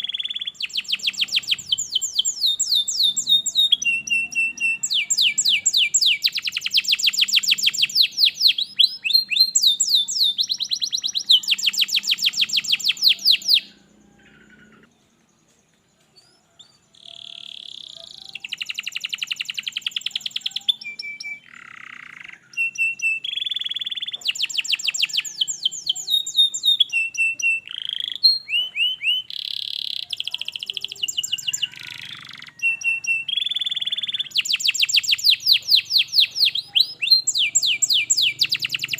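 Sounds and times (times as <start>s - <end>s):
canary singing trills: 0.0s - 15.5s, 16.1s - 38.9s.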